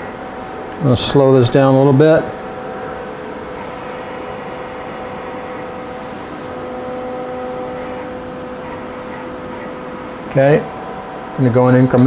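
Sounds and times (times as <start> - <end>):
low motor tone: 0.0 - 12.0
milling machine humming: 0.0 - 12.0.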